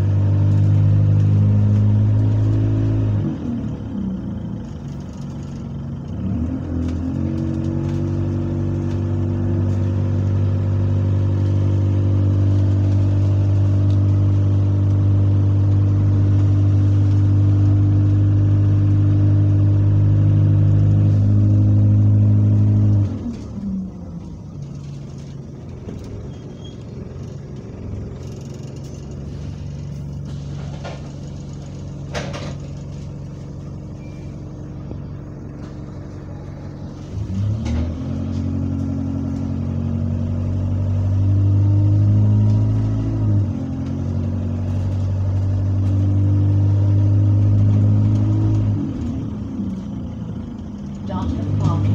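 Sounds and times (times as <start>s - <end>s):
bus diesel engine droning: 0.0s - 51.9s
road noise: 0.0s - 51.9s.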